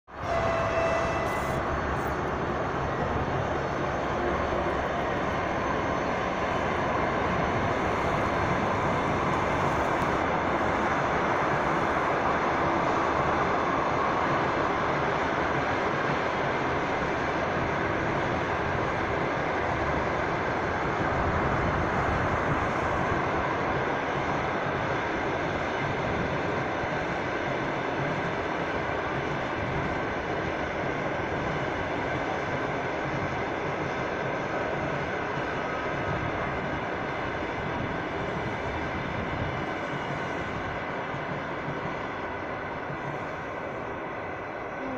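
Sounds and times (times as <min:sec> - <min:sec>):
road traffic: 0:00.0 - 0:44.9
train wheels rumbling on rails: 0:00.0 - 0:44.9.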